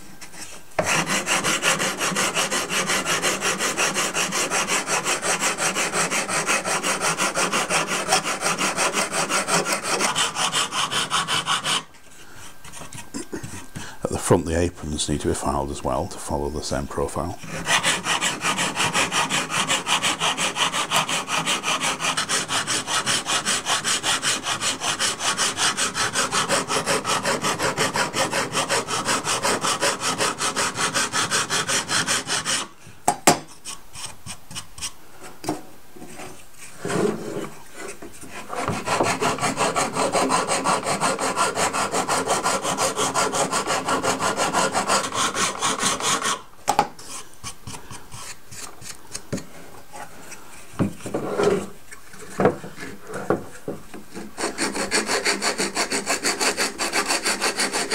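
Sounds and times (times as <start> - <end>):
sanding block rubbing wood: 0.8 - 11.9, 17.0 - 32.7, 36.2 - 46.4, 47.0 - 57.9.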